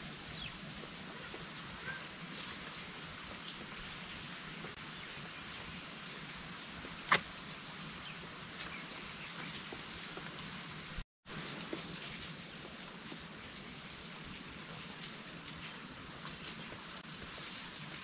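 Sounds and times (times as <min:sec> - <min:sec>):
light rain falling: 0:00.0 - 0:18.0.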